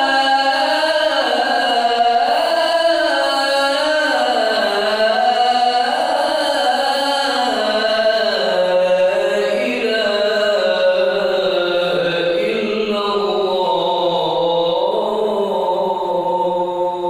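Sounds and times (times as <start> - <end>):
man chanting into a microphone: 0.0 - 17.0.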